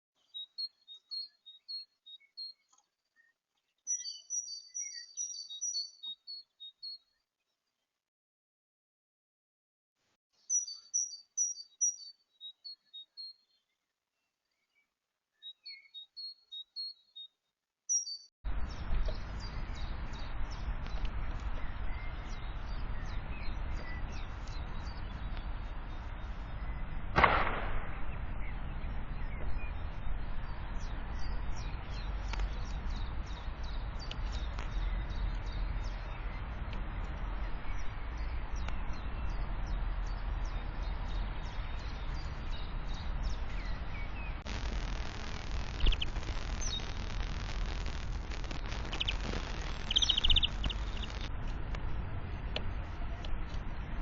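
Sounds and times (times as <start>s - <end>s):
small birds chirping: 0.2s - 8.0s, 10.3s - 27.1s, 27.8s - 54.0s.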